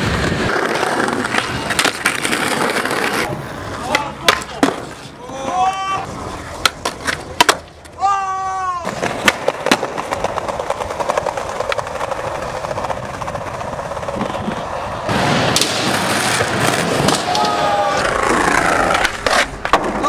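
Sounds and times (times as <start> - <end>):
skateboard clacking on ground: 0.0 - 8.1, 8.8 - 20.0
skateboard wheels rolling on concrete: 0.0 - 20.0.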